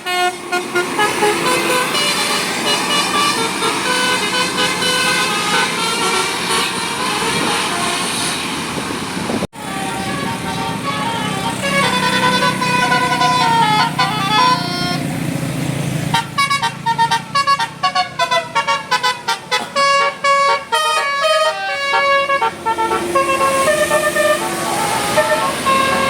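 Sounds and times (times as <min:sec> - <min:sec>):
air horns playing a tune: 0:00.0 - 0:08.6, 0:09.5 - 0:15.2, 0:16.1 - 0:26.0
engine rumble: 0:00.0 - 0:26.0.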